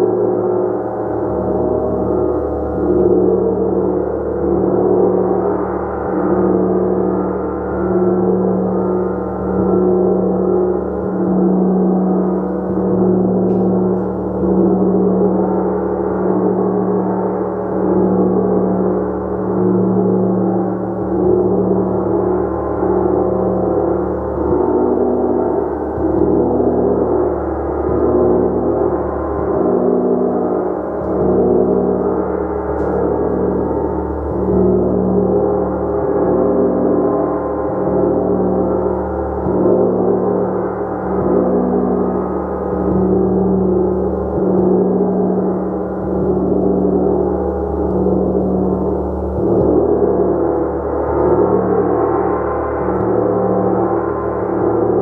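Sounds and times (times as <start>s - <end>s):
gong played continuously: 0.0s - 55.0s.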